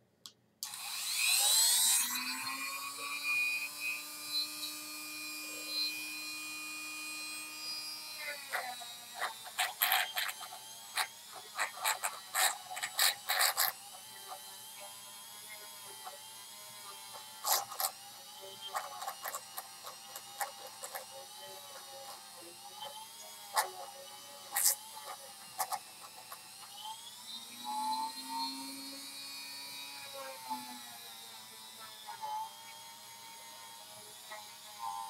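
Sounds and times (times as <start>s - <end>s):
rotary tool running: 0.6s - 35.0s.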